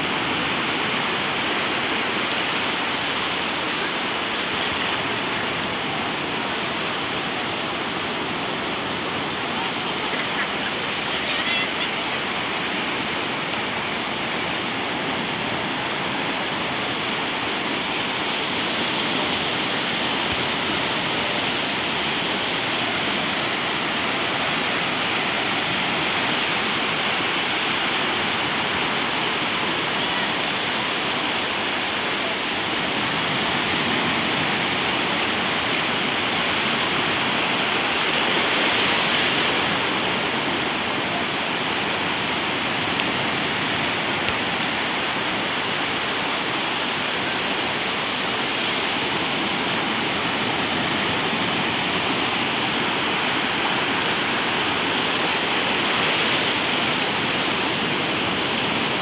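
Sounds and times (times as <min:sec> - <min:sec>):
sea waves washing ashore: 0:00.0 - 0:59.0.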